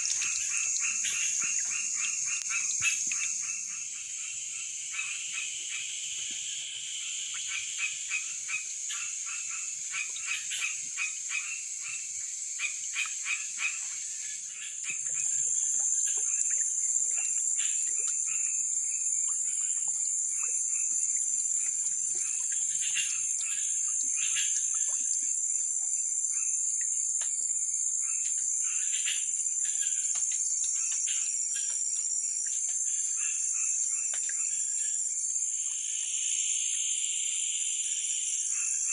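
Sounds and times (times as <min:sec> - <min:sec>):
high-pitched insect drone: 0:00.0 - 0:04.7, 0:11.6 - 0:38.9
frogs calling: 0:00.0 - 0:38.9.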